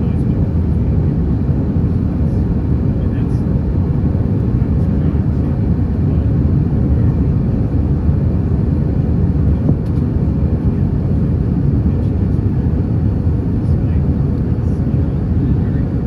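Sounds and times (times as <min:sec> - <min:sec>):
jet engine and airflow rumble: 0:00.0 - 0:16.0.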